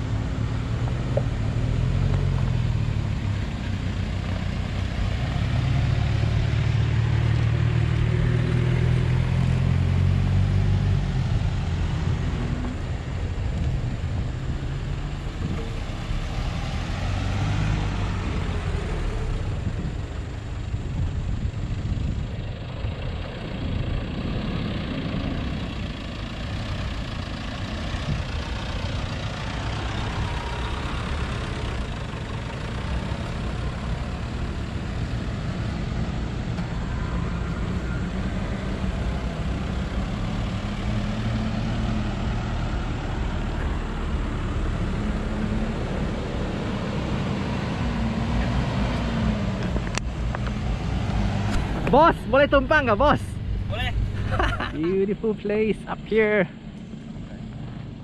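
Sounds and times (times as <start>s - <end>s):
vehicle engines driving slowly: 0.0s - 58.0s.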